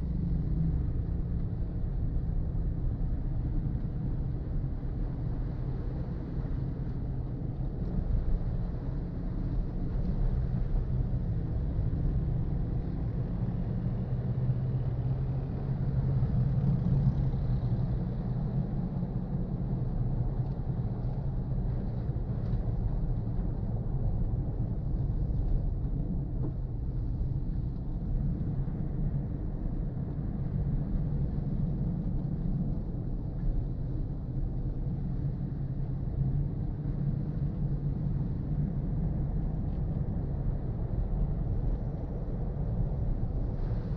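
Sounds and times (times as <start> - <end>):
car road and engine rumble: 0.0 - 43.9.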